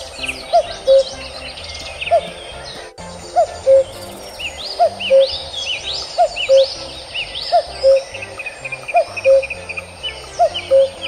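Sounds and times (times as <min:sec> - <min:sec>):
background music: 0:00.0 - 0:11.0
quick high bird chirps: 0:00.0 - 0:11.0
two-note bird call: 0:00.0 - 0:11.0.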